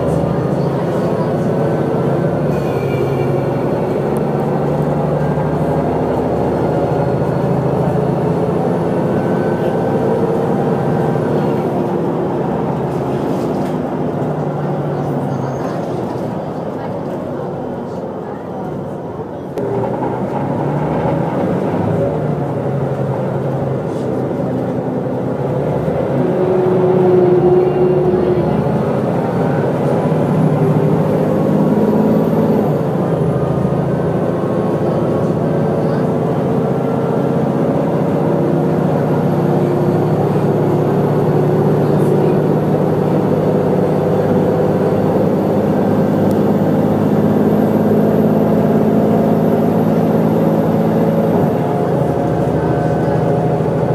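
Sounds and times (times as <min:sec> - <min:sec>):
bus engine: 0:00.0 - 0:53.9.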